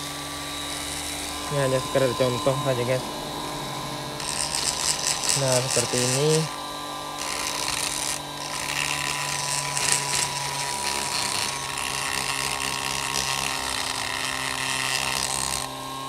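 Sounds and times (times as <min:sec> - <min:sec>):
rotary tool grinding metal: 0:00.0 - 0:16.0.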